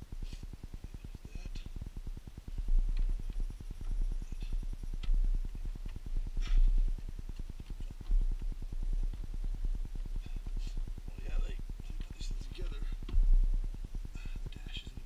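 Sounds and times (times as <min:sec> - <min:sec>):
steady low pulsing: 0:00.0 - 0:15.0.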